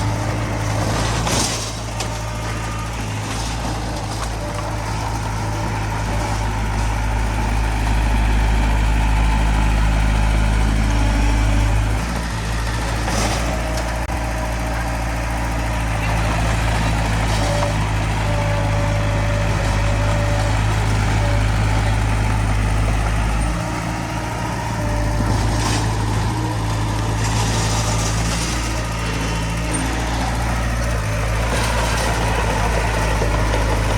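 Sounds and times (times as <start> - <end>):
heavy diesel engine running: 0.0 - 33.9.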